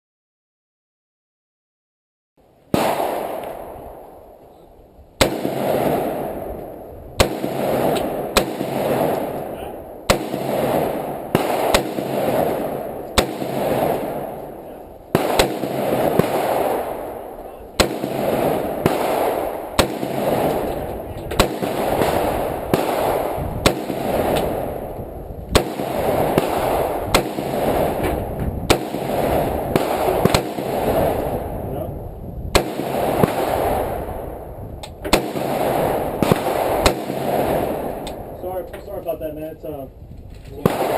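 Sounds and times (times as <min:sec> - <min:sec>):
rifle shots echoing: 0:02.7 - 0:04.4, 0:05.2 - 0:31.7, 0:32.5 - 0:39.1, 0:40.6 - 0:40.9.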